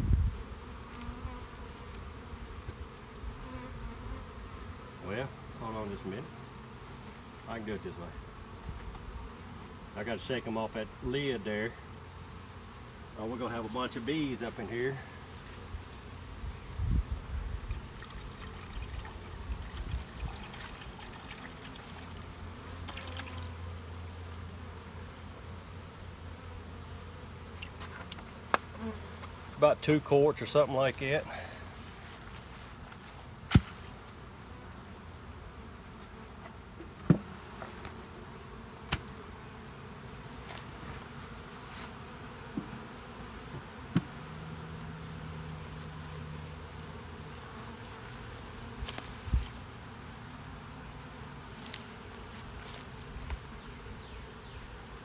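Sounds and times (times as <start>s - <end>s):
bee droning close by: 0.0s - 55.0s
honeybees buzzing: 0.0s - 55.0s.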